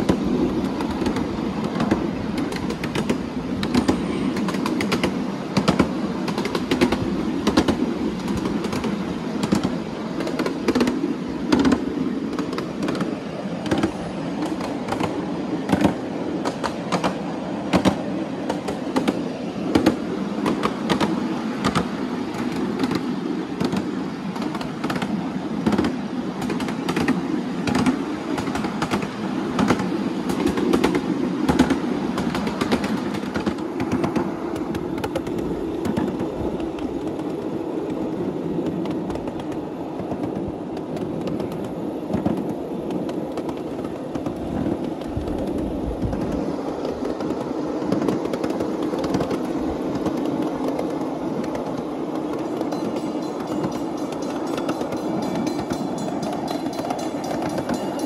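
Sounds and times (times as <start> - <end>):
miniature train cars rumbling: 0.0 - 58.0
wheels clicking over track: 0.0 - 58.0.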